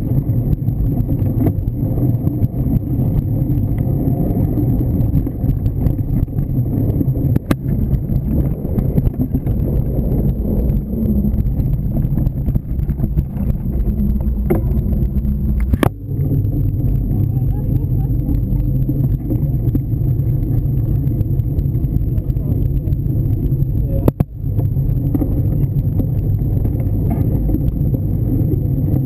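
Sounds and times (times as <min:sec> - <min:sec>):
bike tyres rumbling on dirt trail: 0:00.0 - 0:29.0.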